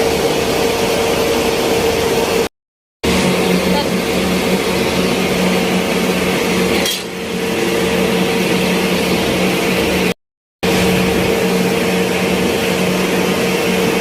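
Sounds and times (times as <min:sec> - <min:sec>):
flour mill machinery humming: 0:00.0 - 0:14.0.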